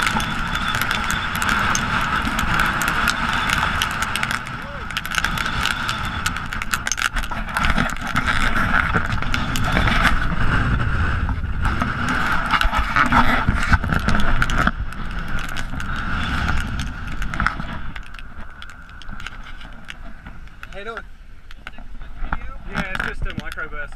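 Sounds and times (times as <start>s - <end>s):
gusty wind buffeting microphone: 0.0s - 23.9s.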